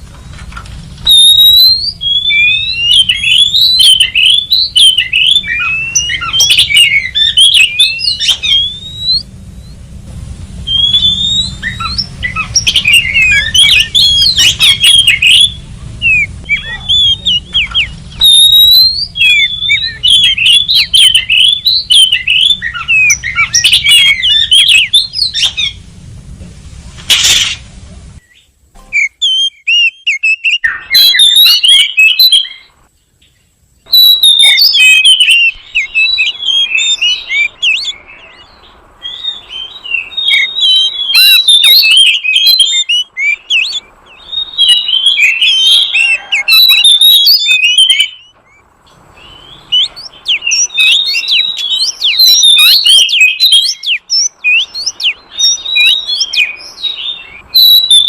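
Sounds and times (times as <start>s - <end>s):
bird chirping rapid varied notes: 0.0s - 26.0s, 27.1s - 58.0s.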